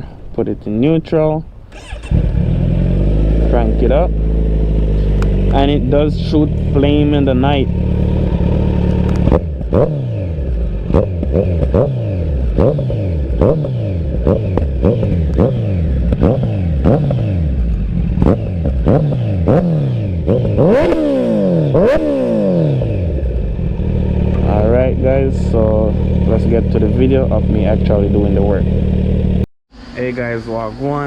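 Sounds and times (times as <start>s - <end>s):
motorcycle engine revving: 1.7s - 31.0s.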